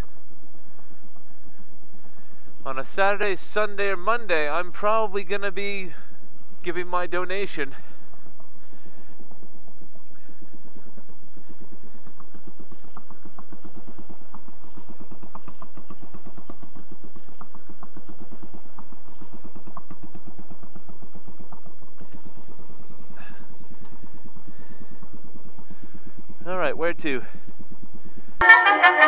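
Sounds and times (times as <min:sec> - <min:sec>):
motorcycle engine idling: 0:00.0 - 0:28.4.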